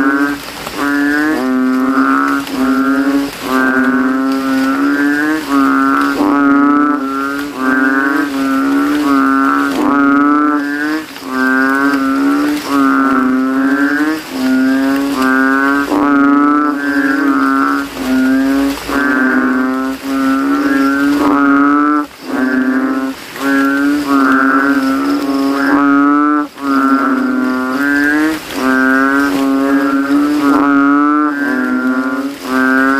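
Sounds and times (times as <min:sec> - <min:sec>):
frogs calling in chorus: 0:00.0 - 0:32.9.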